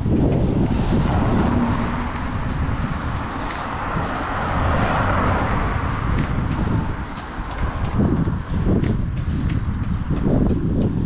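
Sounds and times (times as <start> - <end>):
road noise: 0.0 - 11.0
traffic: 0.0 - 11.0
wind noise: 0.0 - 11.0.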